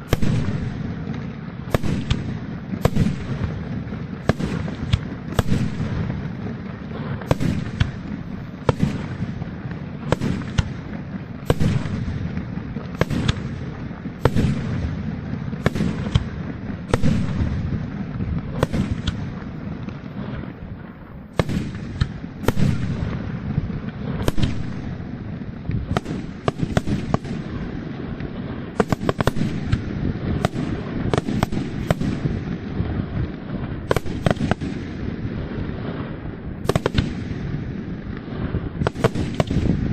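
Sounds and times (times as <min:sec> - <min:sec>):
firework bangs: 0:00.0 - 0:39.9
low rumble and crackle: 0:00.0 - 0:39.9.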